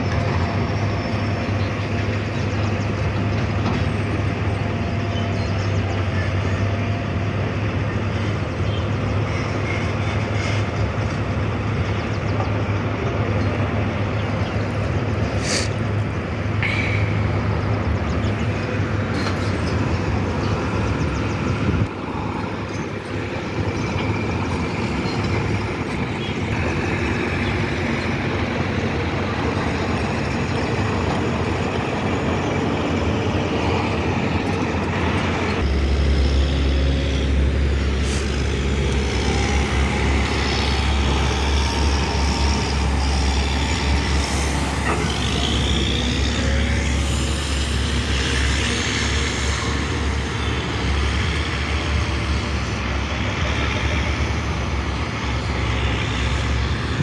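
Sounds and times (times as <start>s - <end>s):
diesel vehicles running: 0.0s - 57.0s.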